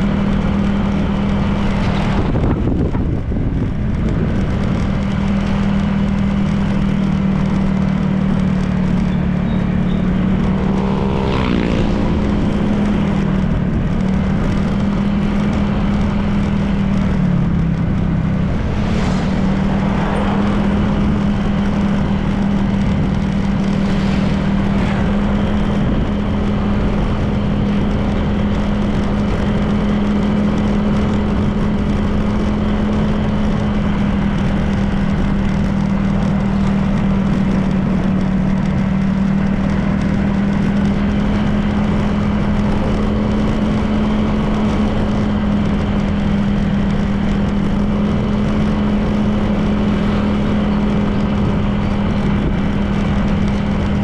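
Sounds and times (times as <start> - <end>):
passing vehicles: 0.0 - 54.0
road and wind noise: 0.0 - 54.0
scooter engine running: 0.0 - 54.0.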